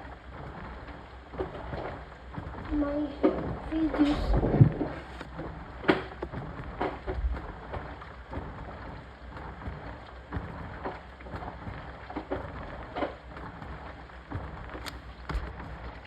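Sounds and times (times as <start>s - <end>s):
washing machine sloshing water: 0.0s - 16.0s.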